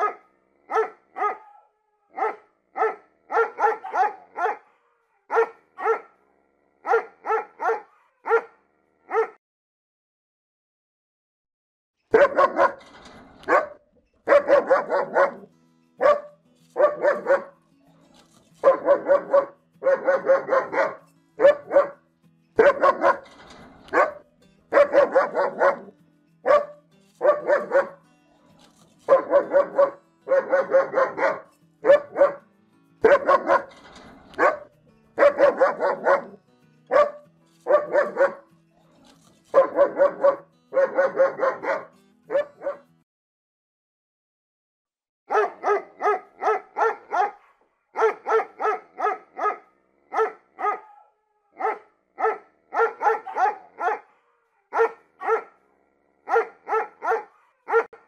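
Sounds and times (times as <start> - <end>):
dog barking: 0.0 - 6.2, 6.8 - 9.4, 12.1 - 17.6, 18.6 - 22.0, 22.6 - 28.0, 29.1 - 32.4, 33.0 - 38.5, 39.5 - 42.9, 45.3 - 58.0.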